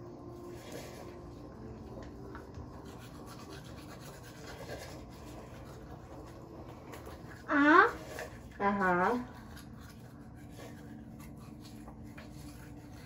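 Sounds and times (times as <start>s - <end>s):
toothbrush scrubbing teeth: 0.0s - 13.0s.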